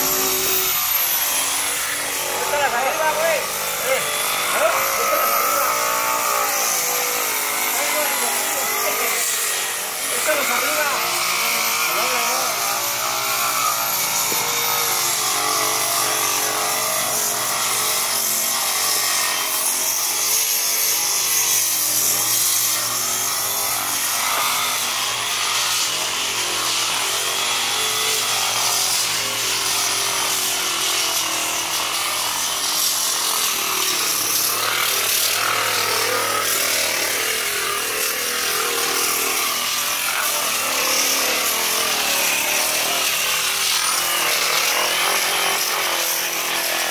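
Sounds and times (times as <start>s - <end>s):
electric sander grinding plaster: 0.0s - 46.9s.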